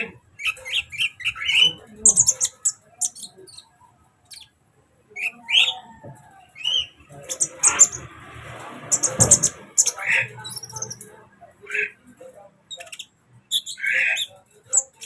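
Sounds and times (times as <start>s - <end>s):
bird chirping and trilling: 0.0s - 4.6s, 5.2s - 5.9s, 6.5s - 8.2s, 8.8s - 12.0s, 12.6s - 15.0s.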